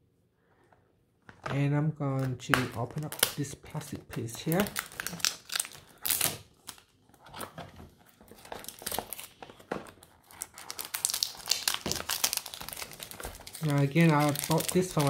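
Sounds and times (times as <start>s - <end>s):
plastic wrap crinkling: 2.1s - 15.0s.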